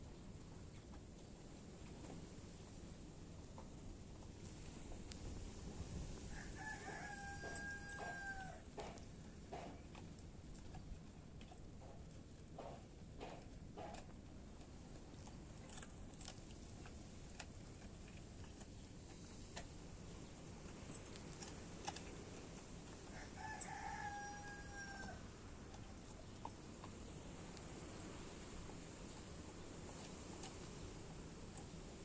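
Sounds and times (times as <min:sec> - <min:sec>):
faint steady background noise: 0:00.0 - 0:32.0.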